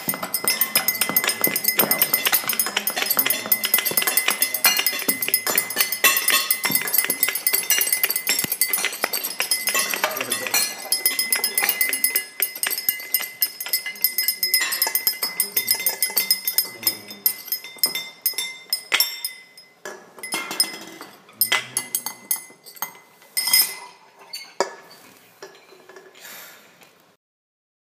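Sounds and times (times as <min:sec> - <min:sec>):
dishes and cutlery clinking: 0:00.0 - 0:26.2.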